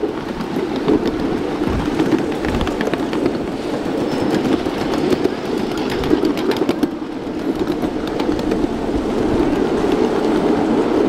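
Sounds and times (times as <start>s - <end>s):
track clicks and clacks: 0.0s - 11.0s
train wheels rumbling on rails: 0.0s - 11.0s.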